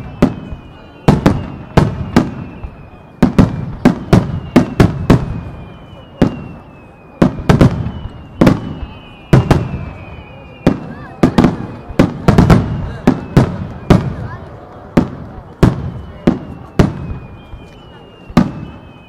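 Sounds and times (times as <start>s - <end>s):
faint high whistle: 0.0s - 14.5s, 15.3s - 19.0s
fireworks bursting: 0.0s - 19.0s.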